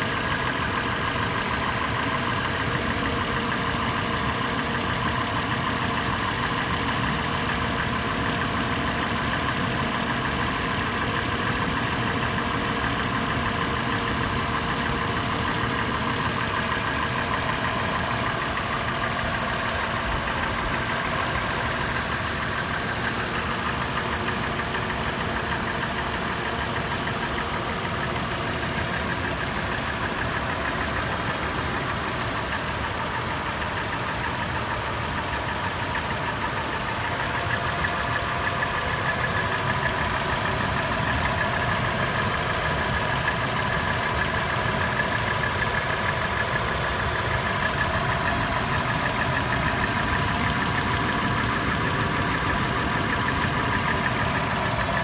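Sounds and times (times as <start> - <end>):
engine idling with clattering tap: 0.0 - 55.0.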